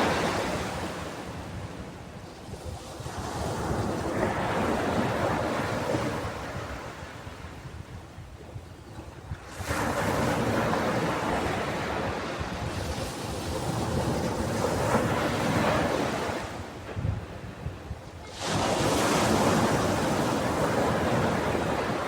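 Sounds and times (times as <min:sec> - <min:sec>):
ocean waves washing on beach: 0:00.0 - 0:22.0.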